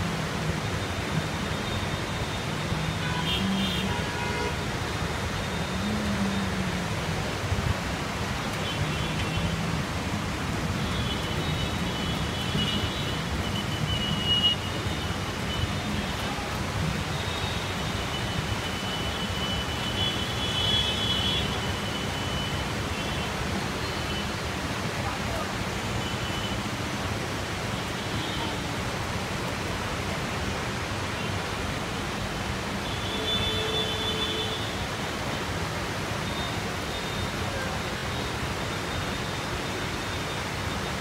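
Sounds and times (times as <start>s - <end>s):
heavy rain hissing: 0.0s - 41.0s.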